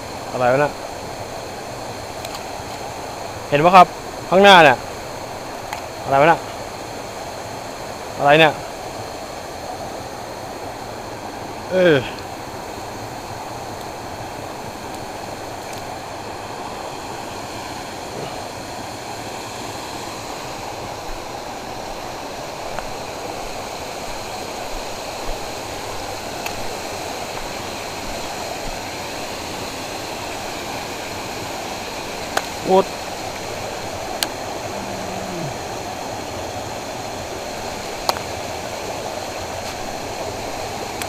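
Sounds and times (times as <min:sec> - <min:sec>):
flowing canal water: 0:00.0 - 0:41.0.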